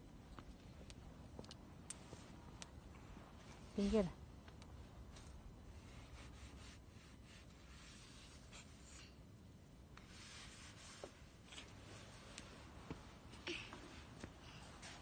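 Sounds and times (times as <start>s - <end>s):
faint soft rustling: 0.2s - 9.2s, 9.9s - 15.0s.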